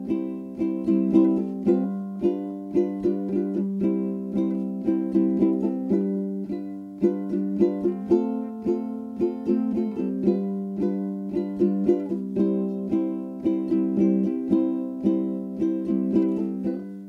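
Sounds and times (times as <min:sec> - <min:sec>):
plucked string instrument tune: 0:00.0 - 0:17.0.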